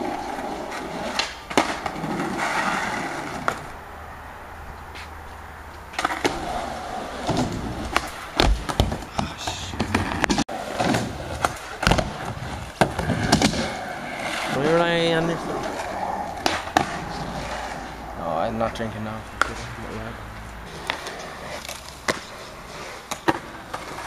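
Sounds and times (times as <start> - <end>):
skateboard clacking on ground: 0.0 - 3.8, 5.7 - 19.6, 20.6 - 24.0
skateboard wheels rumbling on concrete: 0.0 - 24.0.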